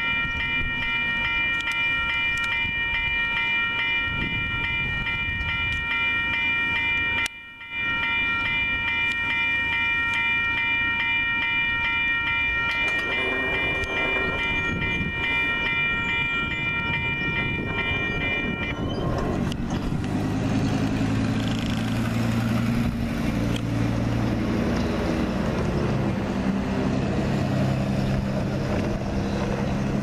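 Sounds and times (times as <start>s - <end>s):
railroad crossing bells ringing: 0.0s - 30.0s
train rumbling: 0.0s - 30.0s.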